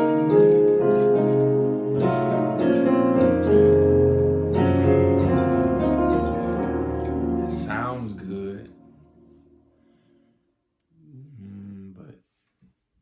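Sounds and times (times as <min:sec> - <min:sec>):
keyboard sustained chords: 0:00.0 - 0:10.5.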